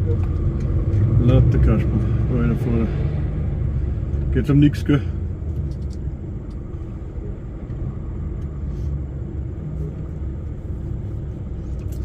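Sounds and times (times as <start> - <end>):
engine and road rumble in cab: 0.0 - 12.0.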